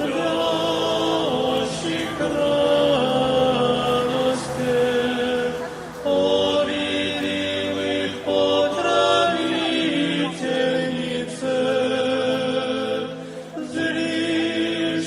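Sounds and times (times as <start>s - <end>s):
choir singing a slow chant: 0.0s - 15.0s.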